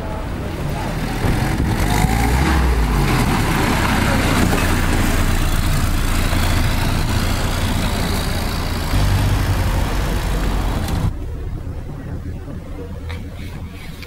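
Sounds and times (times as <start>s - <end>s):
jeep engine idling: 0.0s - 14.0s.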